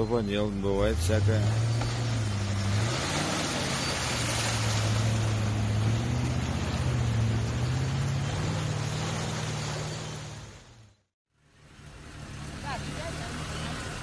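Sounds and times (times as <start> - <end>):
churning muddy water: 0.0 - 11.0, 11.6 - 14.0
off-road vehicle engine: 0.0 - 14.0.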